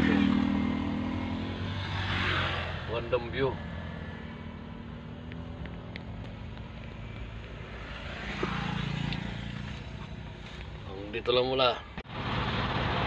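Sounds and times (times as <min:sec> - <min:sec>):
truck engine low hum: 0:00.0 - 0:13.0.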